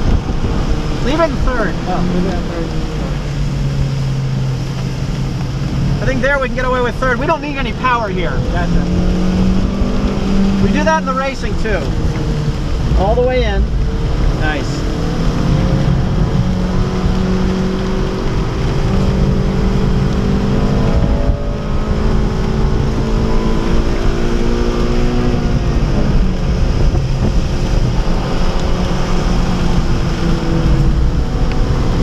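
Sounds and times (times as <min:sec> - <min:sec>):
car engine revving: 0:00.0 - 0:32.0
road and wind rumble: 0:00.0 - 0:32.0.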